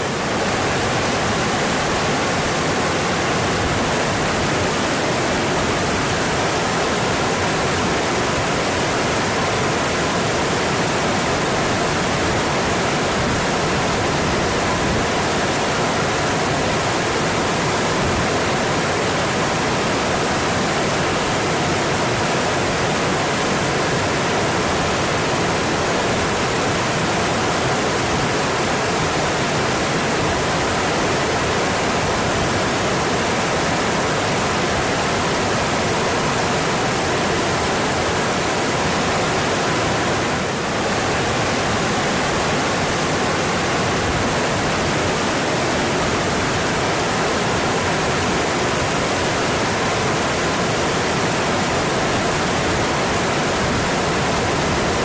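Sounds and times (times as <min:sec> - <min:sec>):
mountain stream rushing over rocks: 0:00.0 - 0:55.0.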